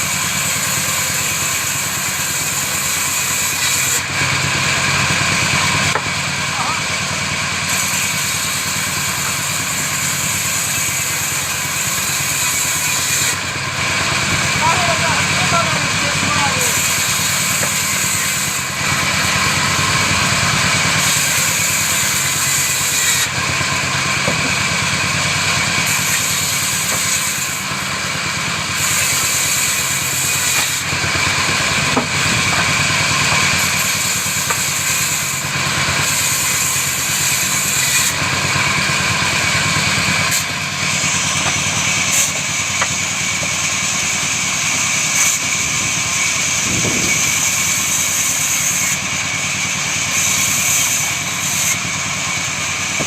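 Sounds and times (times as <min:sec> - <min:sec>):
woodworking machine running: 0:00.0 - 0:53.0.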